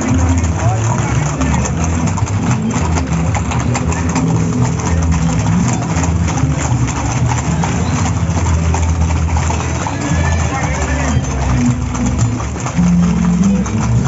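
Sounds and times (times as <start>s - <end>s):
horse hooves clip-clopping on asphalt: 0.0s - 14.0s.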